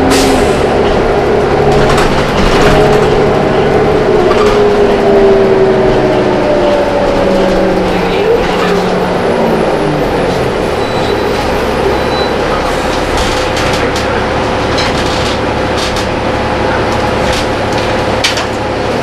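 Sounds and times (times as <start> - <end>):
bus drivetrain whine: 0.0 - 19.0
road rumble: 0.0 - 19.0.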